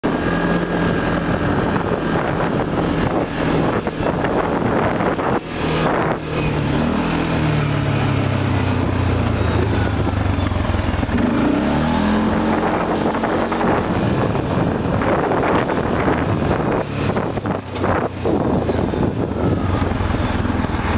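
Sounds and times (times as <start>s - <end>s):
off-road vehicle engine under load: 0.0s - 20.9s
rumble of driving noise: 0.0s - 20.9s.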